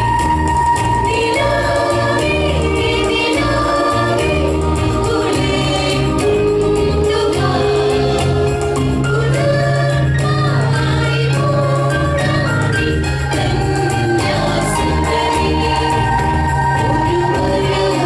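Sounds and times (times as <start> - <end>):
mixed choir singing in parts: 0.5 - 18.0.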